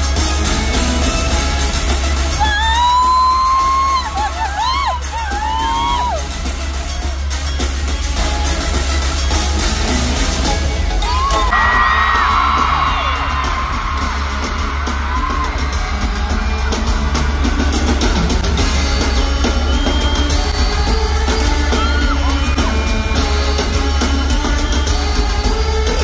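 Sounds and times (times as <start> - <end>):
fans screaming: 0.0 - 7.4, 10.7 - 26.0
live concert music: 0.0 - 26.0.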